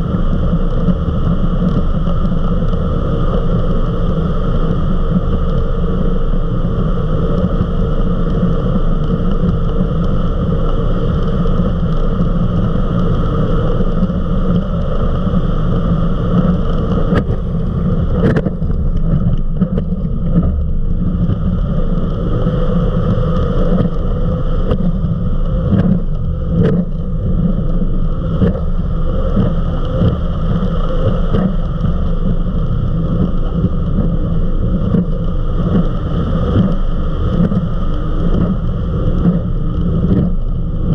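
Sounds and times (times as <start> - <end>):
powerboat engine drone: 0.0 - 40.9
rushing wind and water: 0.0 - 40.9.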